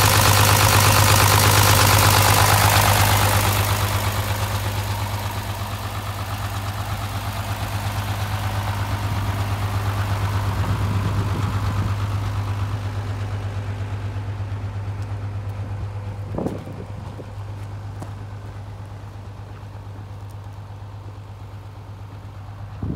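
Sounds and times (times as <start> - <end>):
diesel bus engine idling: 0.0 - 22.9.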